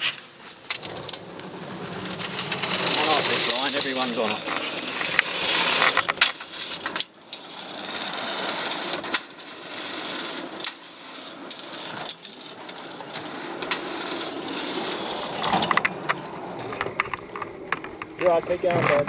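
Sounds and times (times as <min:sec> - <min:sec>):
wheeled carts rattling: 0:00.0 - 0:19.0.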